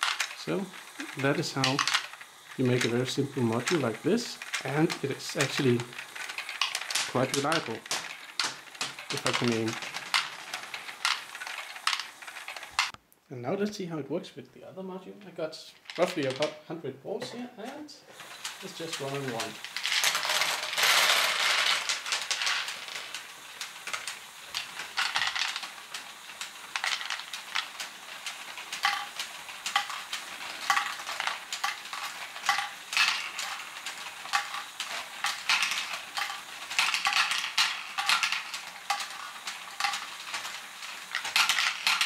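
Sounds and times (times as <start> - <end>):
plastic balls clicking and clattering: 0.0 - 13.0, 15.8 - 16.6, 18.1 - 42.0.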